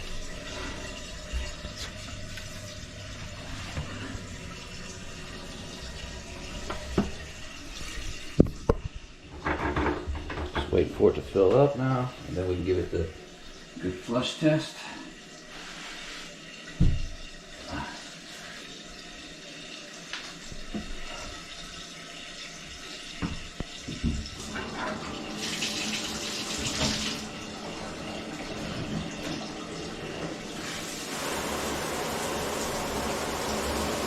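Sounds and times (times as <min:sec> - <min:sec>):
toilet tank refilling hiss: 0:00.0 - 0:08.6, 0:13.7 - 0:34.0.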